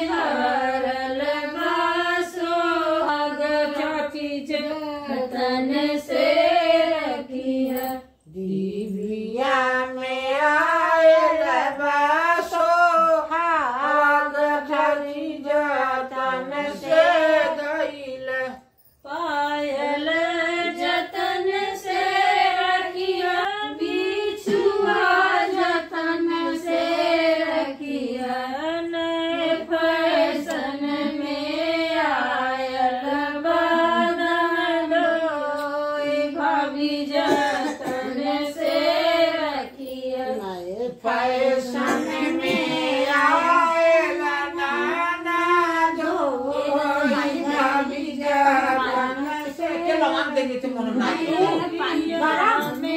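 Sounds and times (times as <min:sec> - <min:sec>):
women singing together: 0:00.0 - 0:52.9.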